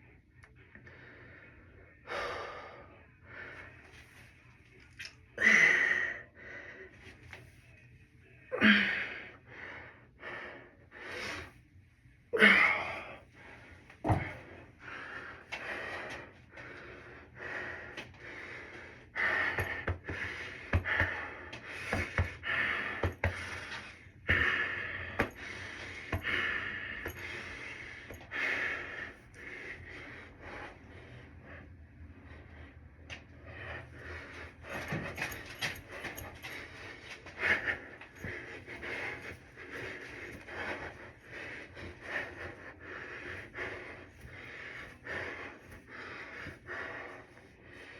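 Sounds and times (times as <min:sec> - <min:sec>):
person breathing hard: 0:00.8 - 0:03.9, 0:05.4 - 0:07.1, 0:08.6 - 0:11.6, 0:12.4 - 0:47.9.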